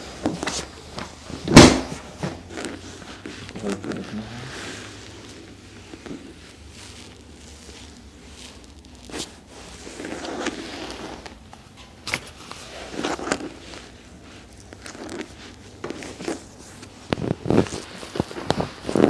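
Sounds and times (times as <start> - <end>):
clothing rustling: 0.0 - 19.0.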